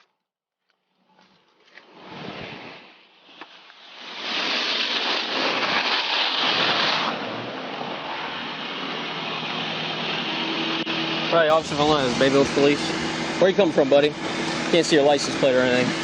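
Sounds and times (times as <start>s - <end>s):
steady rushing noise: 1.9s - 16.0s.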